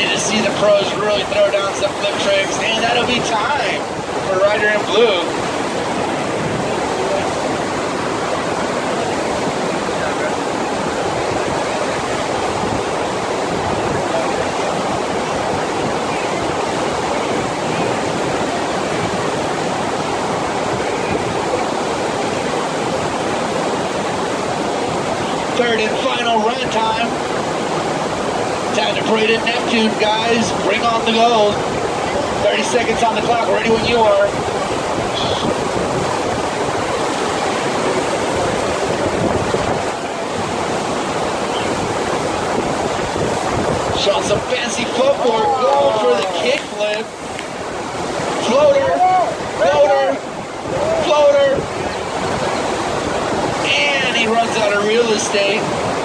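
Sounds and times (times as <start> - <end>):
rush of water from wave machine: 0.0 - 56.0.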